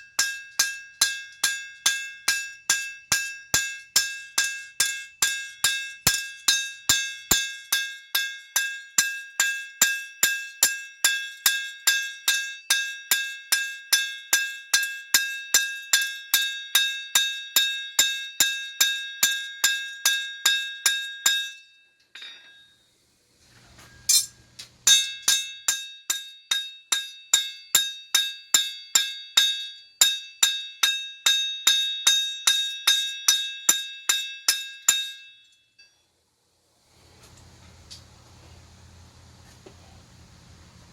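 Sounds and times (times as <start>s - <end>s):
hammer striking steel on anvil: 0.0s - 21.6s, 23.9s - 36.0s.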